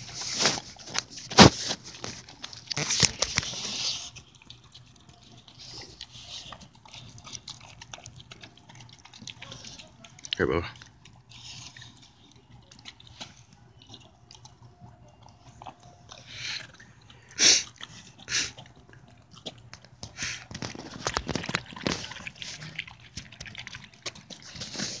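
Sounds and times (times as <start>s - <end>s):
dog chewing and lapping: 0.0s - 25.0s.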